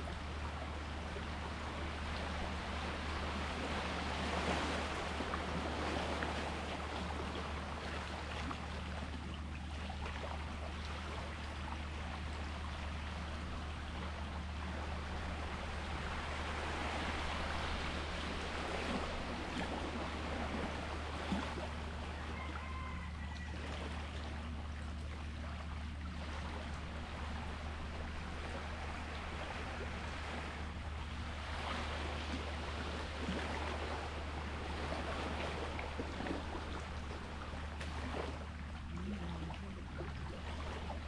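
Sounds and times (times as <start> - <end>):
small waves splashing: 0.0 - 41.0
steady low hum: 0.0 - 41.0.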